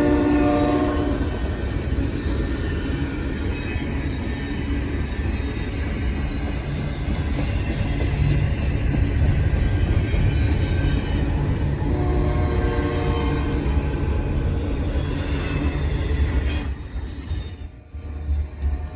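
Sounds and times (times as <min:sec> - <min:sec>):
freight train rumbling past: 0:00.0 - 0:18.9.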